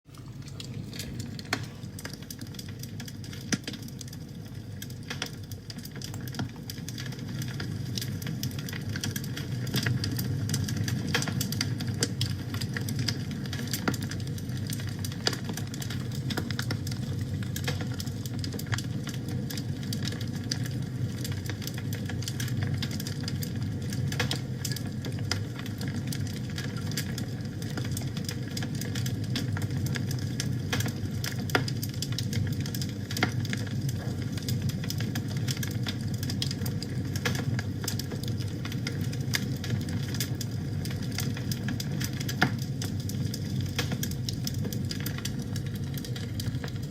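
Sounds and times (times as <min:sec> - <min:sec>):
fire crackling and popping: 0:00.1 - 0:46.9
low rumble of flames: 0:00.1 - 0:46.9.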